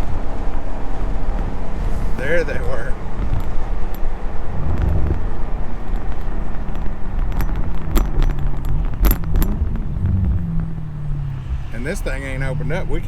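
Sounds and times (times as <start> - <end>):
car engine running: 0.0 - 13.0
sharp exhaust pops: 0.0 - 13.0.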